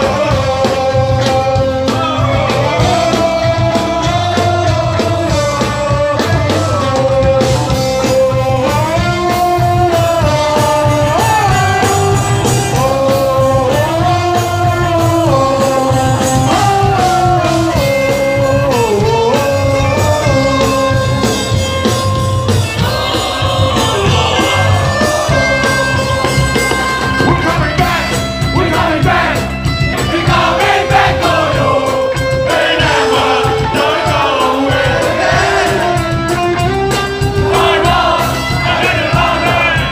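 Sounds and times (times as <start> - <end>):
person singing: 0.0 - 21.3, 22.7 - 36.3
live hardcore band playing: 0.0 - 39.9.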